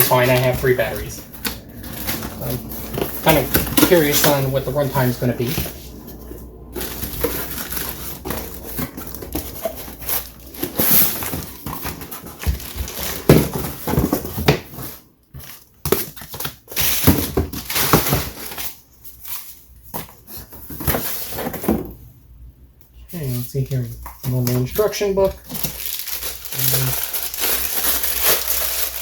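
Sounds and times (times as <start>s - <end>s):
plastic and paper crinkling: 0.0s - 21.5s, 24.2s - 29.0s.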